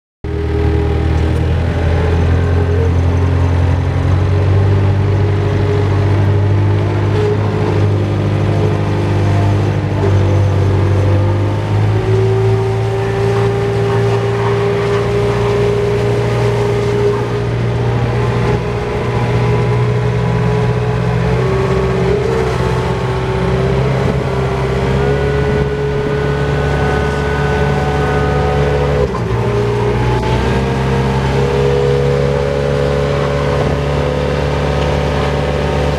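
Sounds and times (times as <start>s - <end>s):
diesel loader engine running: 0.2s - 35.9s
pitched whine: 0.2s - 35.9s.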